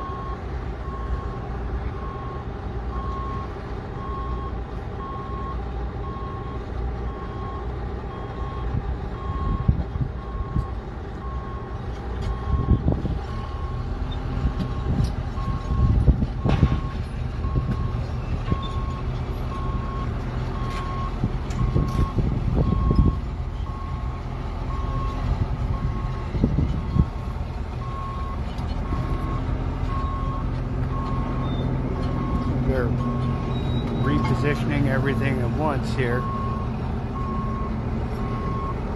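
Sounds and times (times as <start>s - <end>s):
engines rumbling: 0.0s - 38.9s.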